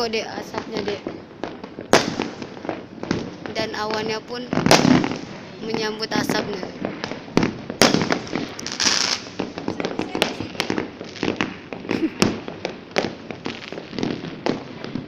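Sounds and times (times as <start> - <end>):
dense crackling burst: 0.0 - 15.0
fireworks bangs and pops: 0.0 - 15.0.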